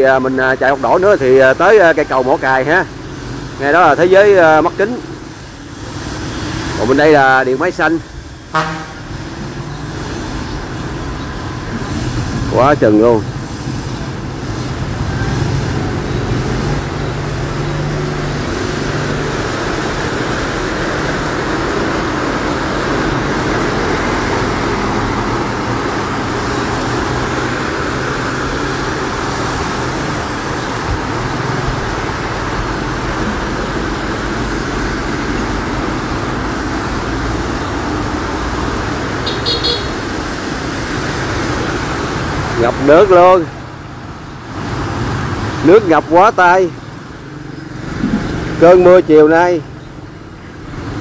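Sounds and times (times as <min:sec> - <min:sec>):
tyres splashing through water: 0:00.0 - 0:51.0
vehicle engines running: 0:00.0 - 0:51.0.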